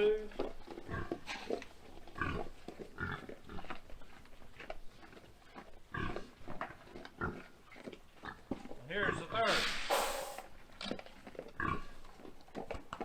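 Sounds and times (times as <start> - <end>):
pigs grunting: 0.0 - 10.4, 11.3 - 12.1.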